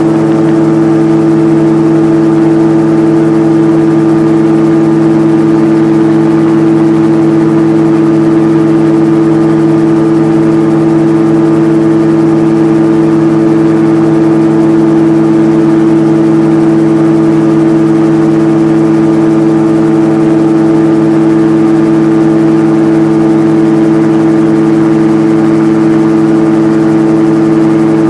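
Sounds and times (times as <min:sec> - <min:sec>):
engine and propeller drone: 0:00.0 - 0:28.0.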